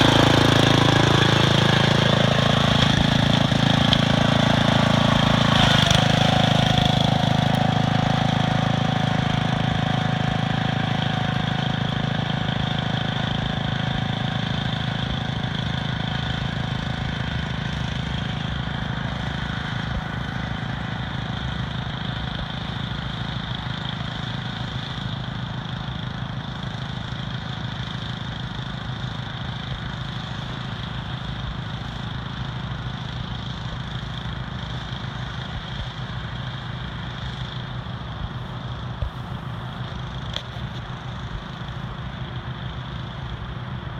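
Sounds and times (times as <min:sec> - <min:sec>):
small tractor engine running: 0:00.0 - 0:43.9.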